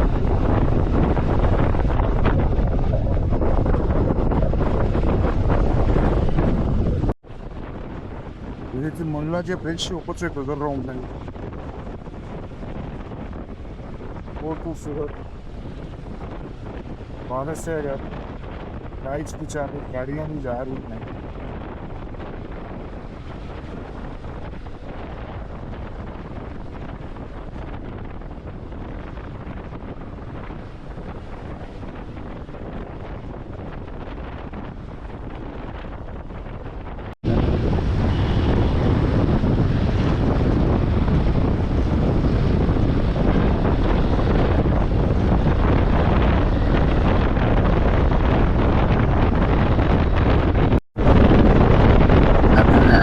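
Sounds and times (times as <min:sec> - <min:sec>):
wind and road noise: 0:00.0 - 0:53.0
wind buffeting microphone: 0:00.0 - 0:53.0.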